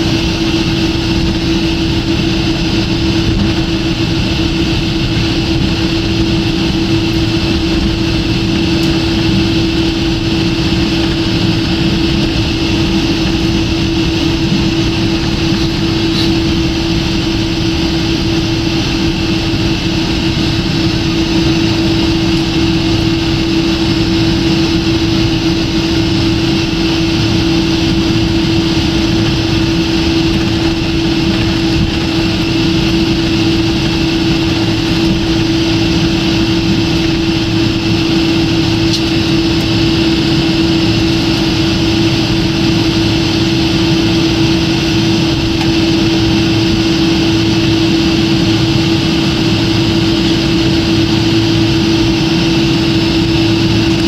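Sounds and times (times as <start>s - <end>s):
airliner cabin noise: 0.0s - 54.0s
low droning hum: 0.0s - 54.0s.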